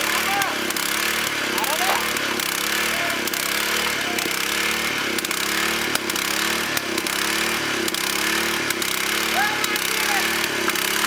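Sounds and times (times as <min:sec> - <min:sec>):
grinding wheel hiss: 0:00.0 - 0:11.0
small petrol engine running: 0:00.0 - 0:11.0.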